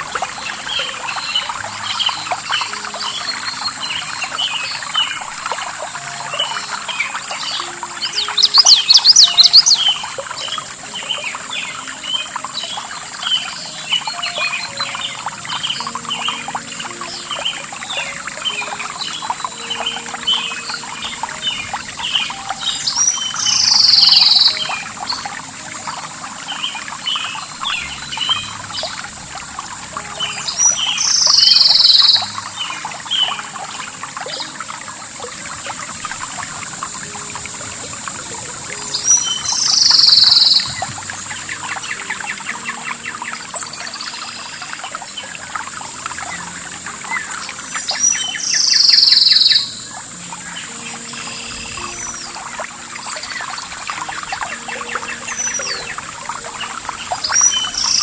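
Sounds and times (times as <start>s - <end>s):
running water: 0.0s - 58.0s
small birds chirping: 0.0s - 58.0s.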